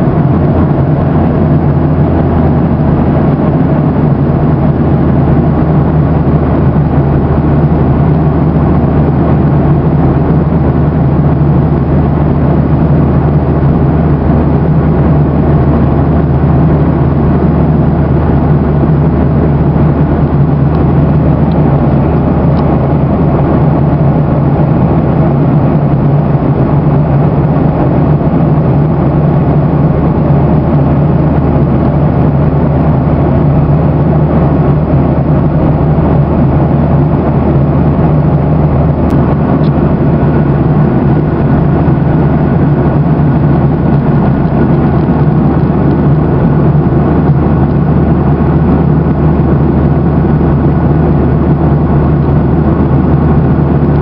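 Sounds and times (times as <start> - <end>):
jet engine drone: 0.0 - 54.0
rushing airflow: 0.0 - 54.0.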